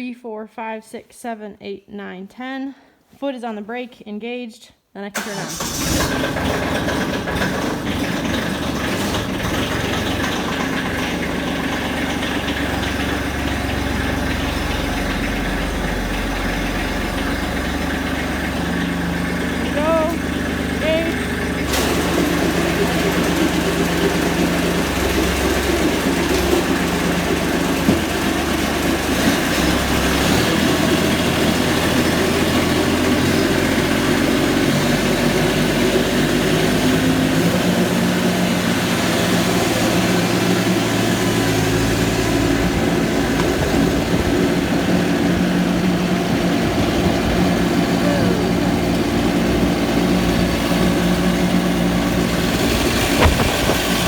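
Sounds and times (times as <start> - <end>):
tractor diesel engine running: 5.2 - 54.0.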